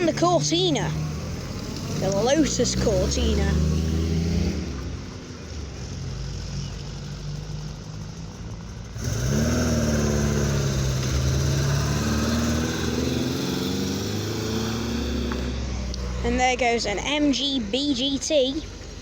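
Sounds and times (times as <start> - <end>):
car engine revving: 0.0 - 19.0
car engines passing slowly: 0.0 - 19.0.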